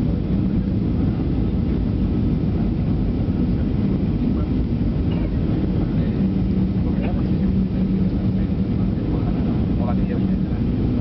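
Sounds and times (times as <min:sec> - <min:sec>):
jet engines roaring: 0:00.0 - 0:11.0
low steady hum: 0:00.0 - 0:11.0.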